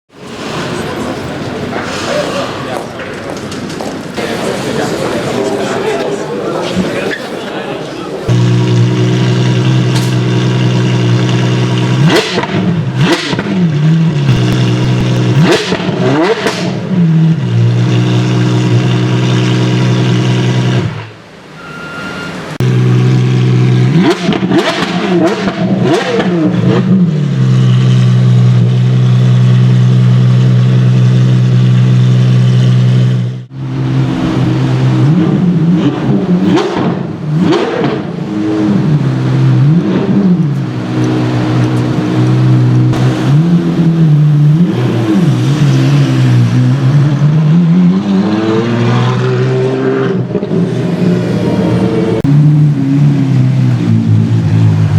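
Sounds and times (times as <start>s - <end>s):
car engine revving: 8.3s - 21.2s, 22.6s - 54.9s.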